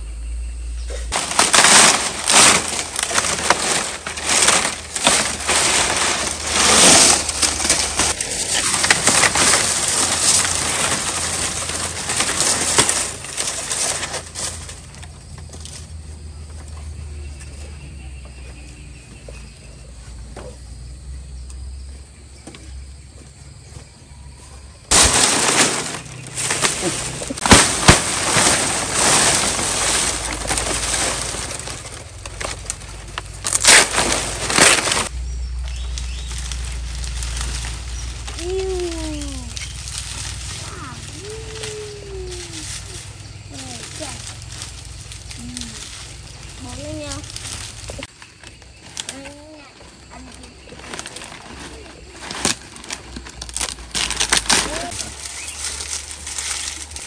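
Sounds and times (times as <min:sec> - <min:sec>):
dry palm leaves rustling: 0:00.8 - 0:18.0, 0:24.7 - 0:57.0.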